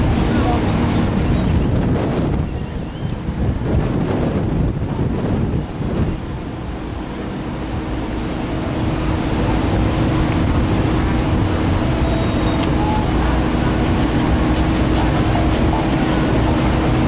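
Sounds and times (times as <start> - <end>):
ship machinery rumbling: 0.0 - 17.0
wind on microphone: 0.0 - 17.0.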